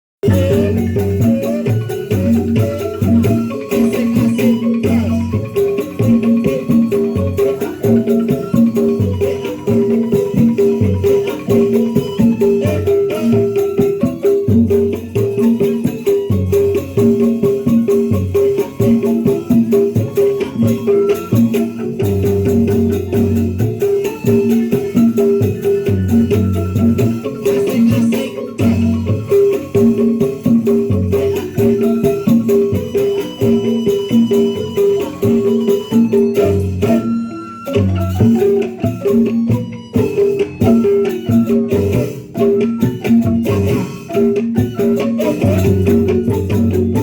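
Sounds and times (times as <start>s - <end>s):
tuned mallet percussion music: 0.2s - 47.0s.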